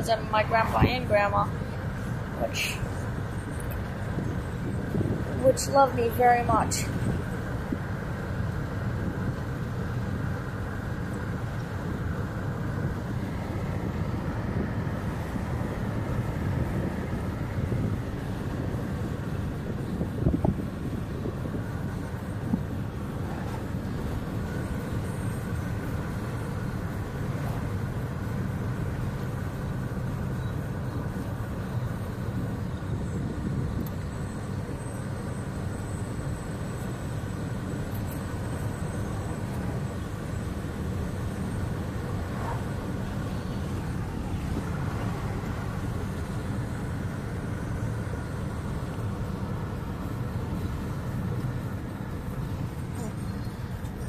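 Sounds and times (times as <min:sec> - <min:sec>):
car interior road noise: 0:00.0 - 0:54.0.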